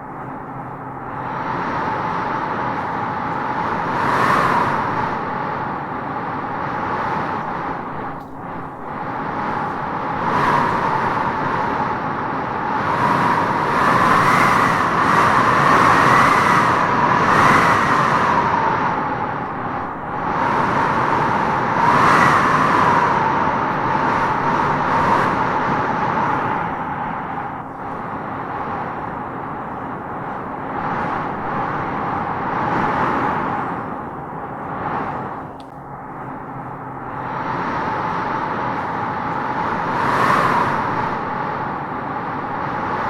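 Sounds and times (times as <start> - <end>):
howling wind gusts: 0.0 - 43.0.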